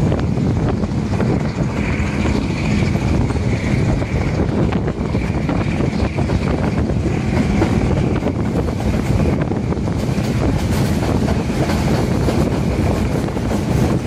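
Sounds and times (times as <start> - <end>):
train wheels rumbling on rail: 0.0 - 14.0
wind buffeting microphone: 0.0 - 14.0.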